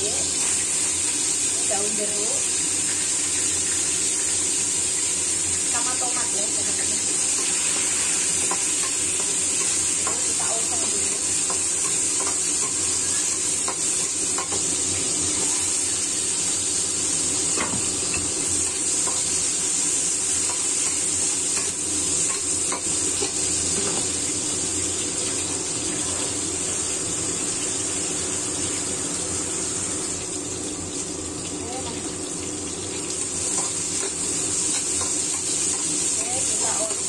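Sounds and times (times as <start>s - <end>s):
food sizzling in hot oil: 0.0s - 37.0s.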